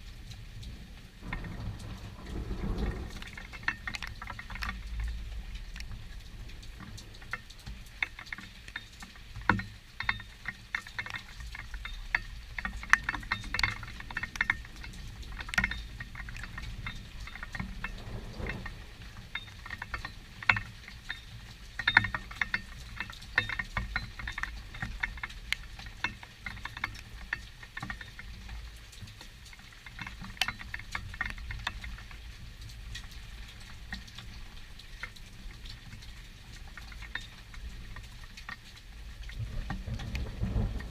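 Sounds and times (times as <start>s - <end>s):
raindrops pattering and ticking: 0.0s - 40.9s.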